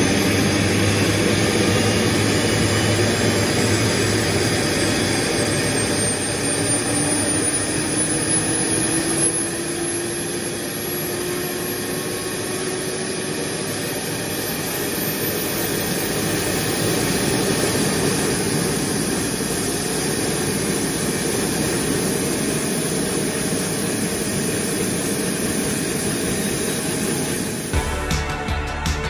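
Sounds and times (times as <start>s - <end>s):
turbine engine spooling up: 0.0s - 28.1s.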